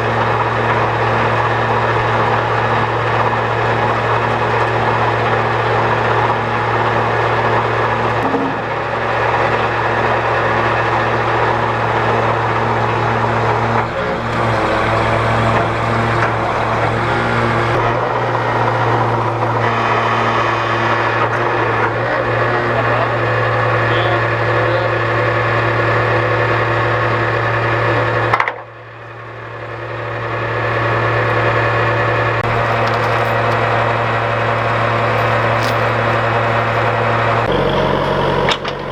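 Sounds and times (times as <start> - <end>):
heavy machinery engine running: 0.0 - 38.9.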